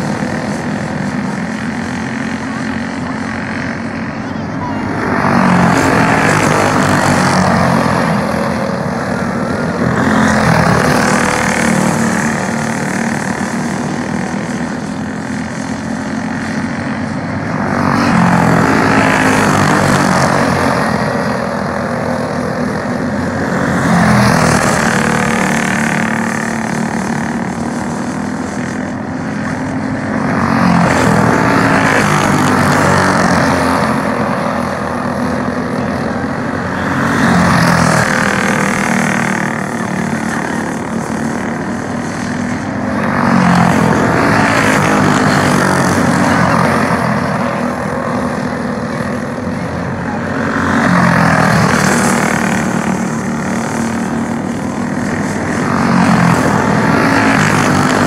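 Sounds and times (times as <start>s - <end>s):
go-kart engines buzzing: 0.0s - 58.0s.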